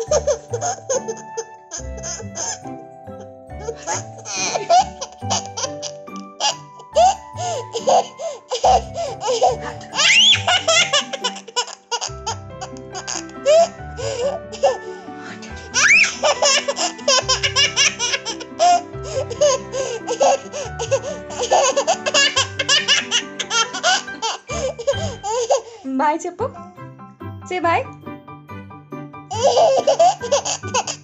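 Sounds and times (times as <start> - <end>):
toddler girl laughing: 0.0 - 2.6, 3.6 - 14.8, 15.5 - 25.7, 29.3 - 31.0
background music: 0.0 - 31.0.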